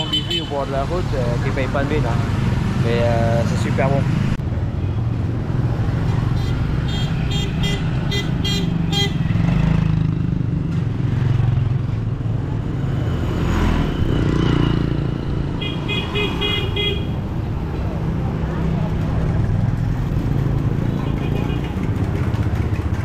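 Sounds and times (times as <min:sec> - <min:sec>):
roadside traffic rumble: 0:00.0 - 0:23.0.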